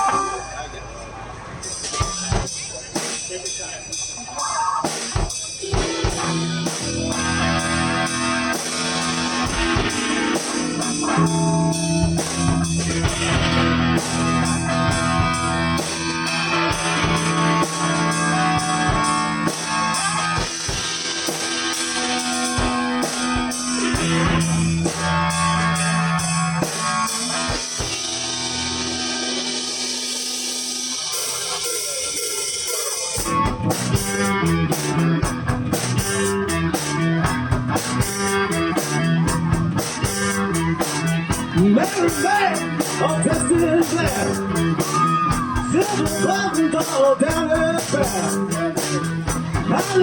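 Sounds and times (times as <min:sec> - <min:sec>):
drum kit steady beat: 0:00.0 - 0:00.6, 0:01.6 - 0:50.0
electric guitar: 0:04.8 - 0:50.0.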